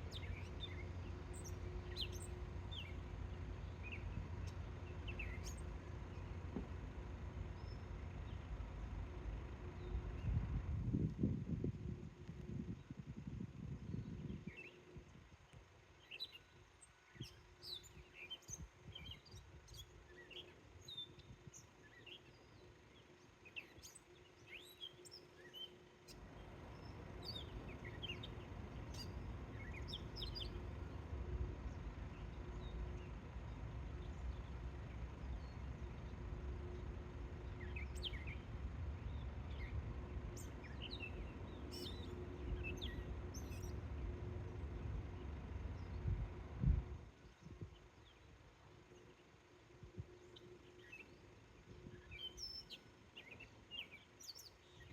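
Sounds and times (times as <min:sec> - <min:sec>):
small birds chirping: 0:00.0 - 0:11.1, 0:11.9 - 0:54.9
low rumble with faint hum: 0:00.0 - 0:54.9.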